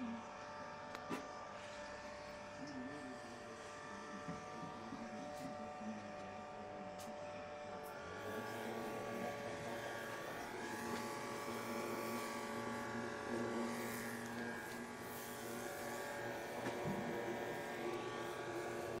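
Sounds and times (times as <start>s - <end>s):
electric buzzing hum: 0.0s - 19.0s.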